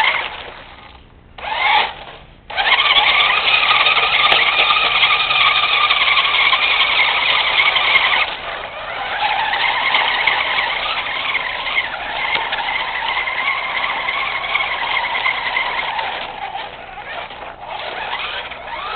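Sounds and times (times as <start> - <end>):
toy truck electric motor whining: 0.0 - 18.9.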